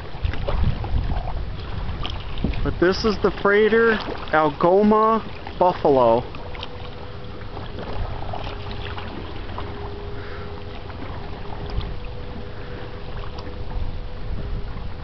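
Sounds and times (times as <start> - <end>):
low rumble: 0.0 - 15.0
ship engines humming: 1.4 - 15.0.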